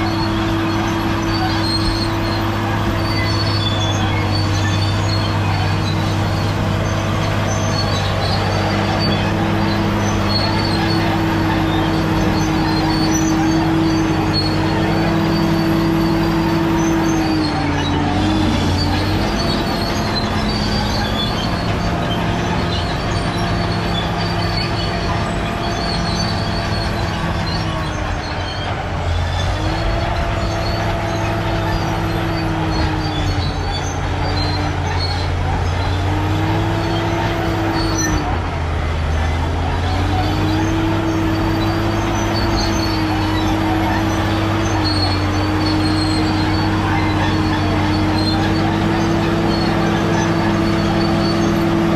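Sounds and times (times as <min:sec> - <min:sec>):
bulldozer diesel engine whining: 0:00.0 - 0:51.9
high squeaks from machine: 0:00.0 - 0:51.9.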